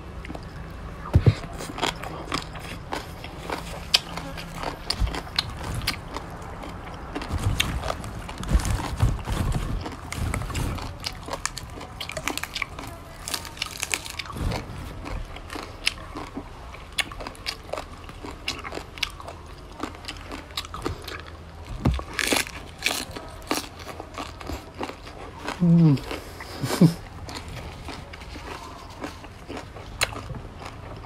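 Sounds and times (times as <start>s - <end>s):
chewing and crunching greens: 0.0s - 31.0s.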